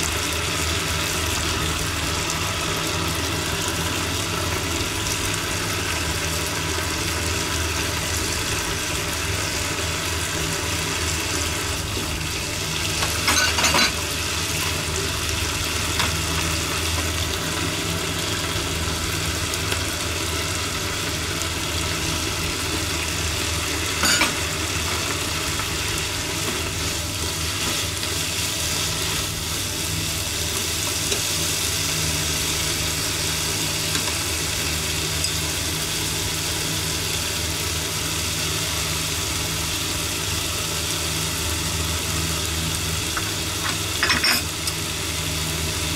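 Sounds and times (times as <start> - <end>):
peppers sizzling in a frying pan: 0.0 - 45.9.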